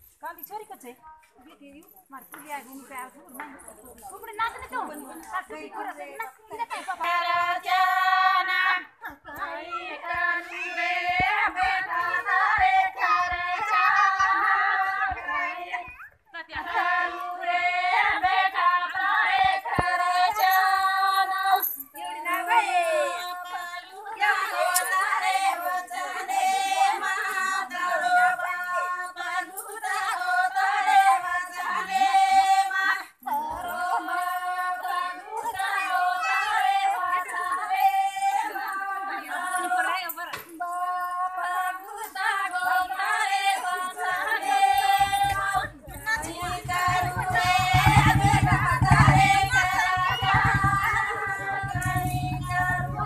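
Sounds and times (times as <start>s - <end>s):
women singing together: 2.2s - 53.0s.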